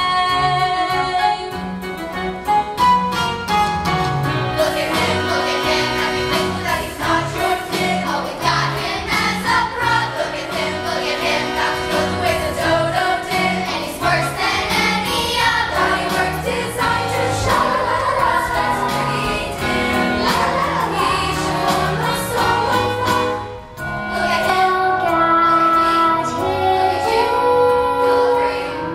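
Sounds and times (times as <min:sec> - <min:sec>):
instrumental accompaniment: 0:00.0 - 0:28.9.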